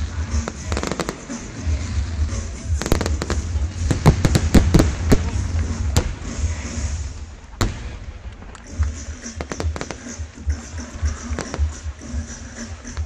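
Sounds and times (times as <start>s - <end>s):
fireworks bangs: 0.0s - 13.0s
fireworks crackling pops: 0.0s - 13.0s
steady low rumble: 0.0s - 13.0s.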